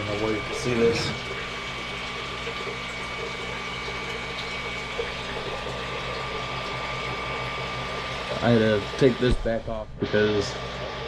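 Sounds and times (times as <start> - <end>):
printer fans whirring: 0.0 - 11.0.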